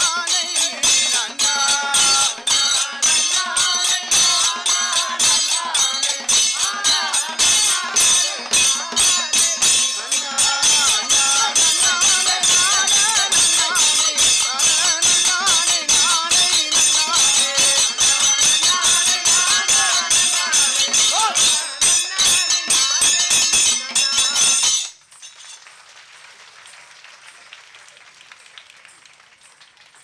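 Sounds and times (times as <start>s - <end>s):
jingling metal percussion: 0.0s - 25.7s.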